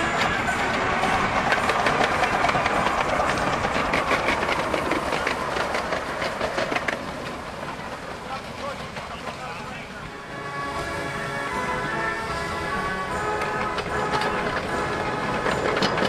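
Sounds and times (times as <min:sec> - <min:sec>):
steam locomotive chuffing: 0:00.0 - 0:16.0
wheels clattering on rails: 0:00.0 - 0:16.0.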